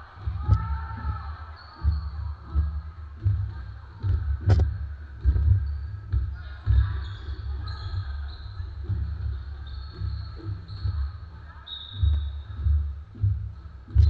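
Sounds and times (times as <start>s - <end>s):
basketball bouncing on wooden floor: 0.2s - 14.0s.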